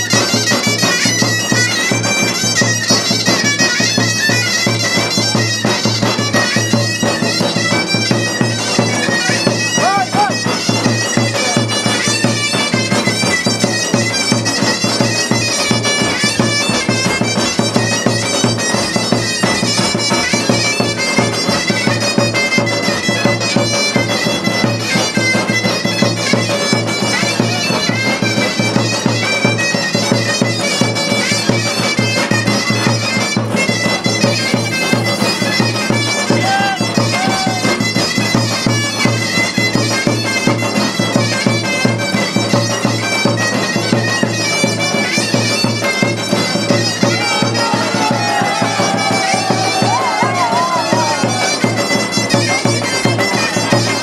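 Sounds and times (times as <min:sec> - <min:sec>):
bagpipe-like wind instrument: 0:00.0 - 0:54.0
fast folk dance music: 0:00.0 - 0:54.0.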